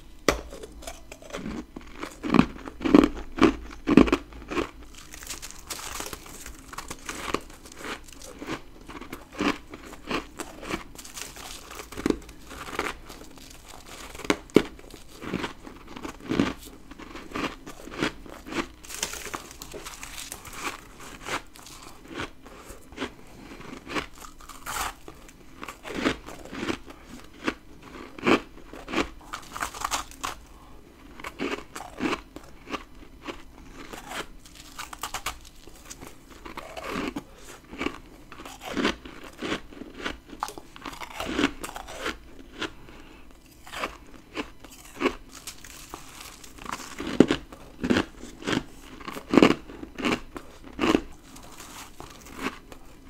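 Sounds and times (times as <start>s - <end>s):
frost crunching while chewed: 0.0s - 53.0s.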